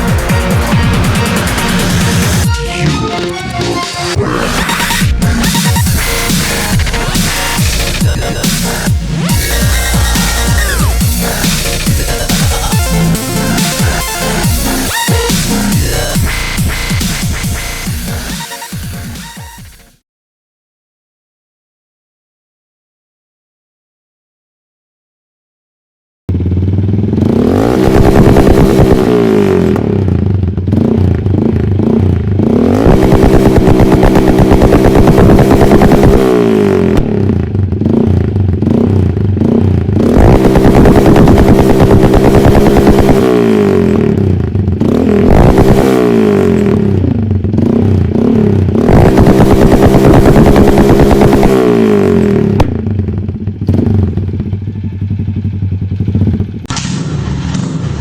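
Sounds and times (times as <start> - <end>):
motorcycle engine revving: 0.0 - 19.8, 26.3 - 58.0.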